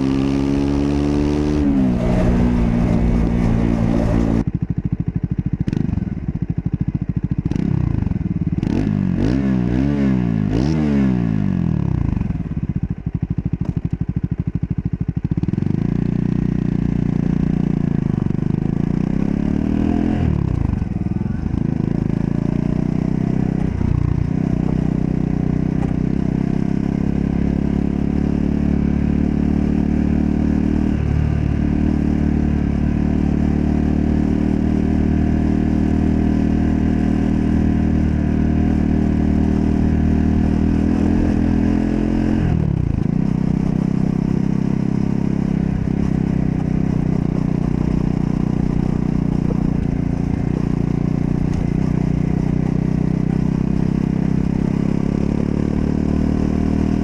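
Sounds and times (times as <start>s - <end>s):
motorcycle engine running: 0.0s - 9.4s, 10.2s - 57.0s.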